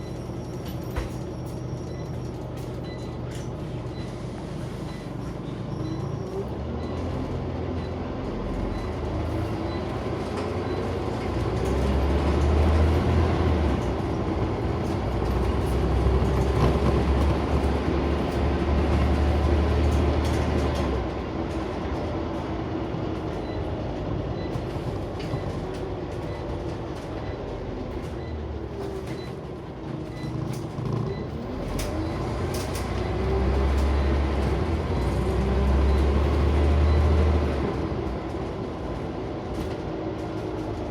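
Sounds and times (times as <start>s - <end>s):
bus diesel engine rumble: 0.0s - 40.9s.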